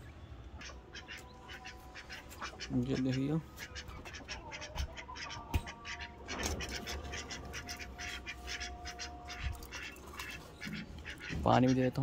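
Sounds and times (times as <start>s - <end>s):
ducks quacking: 0.6s - 12.0s.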